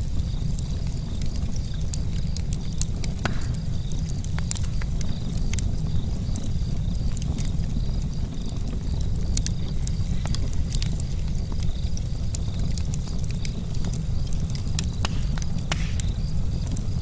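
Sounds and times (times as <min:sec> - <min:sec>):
charcoal fire crackling: 0:00.0 - 0:17.0
sharp pops and ticks: 0:00.6 - 0:07.4, 0:10.2 - 0:17.0.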